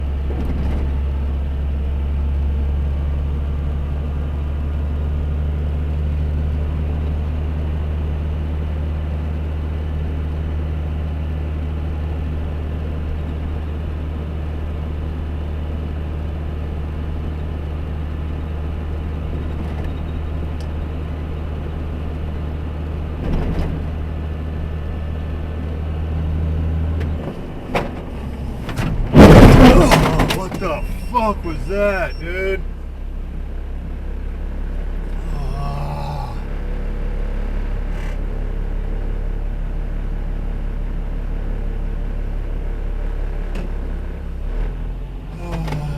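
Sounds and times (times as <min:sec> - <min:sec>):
truck engine and road drone: 0:00.0 - 0:45.9.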